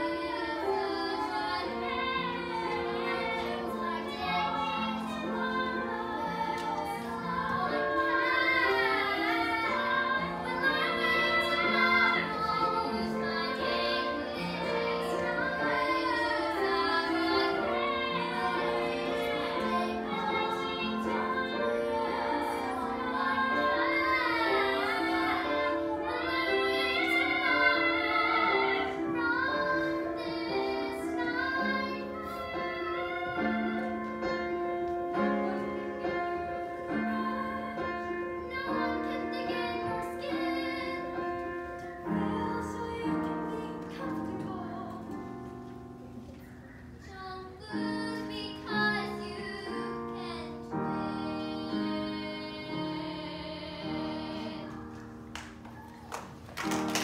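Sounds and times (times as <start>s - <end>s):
child singing: 0.0s - 45.3s, 47.0s - 54.9s
piano accompaniment: 0.0s - 57.0s.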